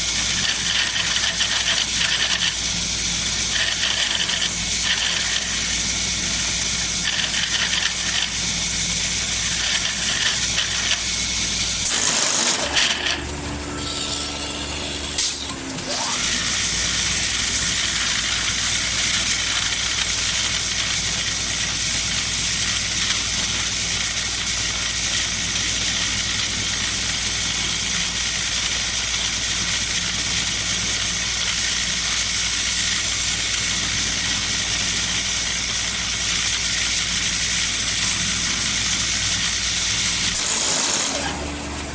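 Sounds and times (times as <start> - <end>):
machine hiss over low hum: 0.0 - 12.0, 16.3 - 41.9.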